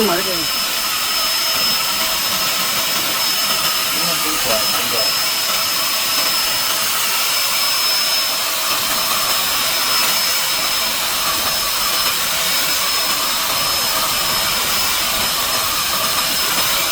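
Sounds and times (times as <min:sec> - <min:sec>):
paint spray gun hissing: 0:00.0 - 0:16.9.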